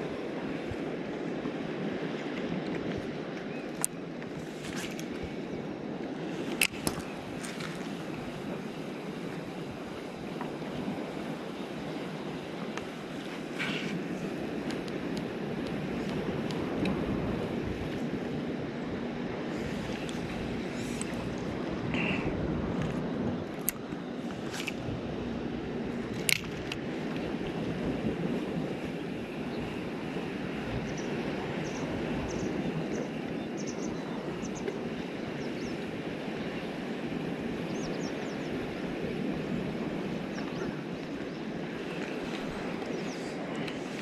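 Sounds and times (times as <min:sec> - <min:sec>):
sea water: 0:00.0 - 0:44.0
wind: 0:00.0 - 0:44.0.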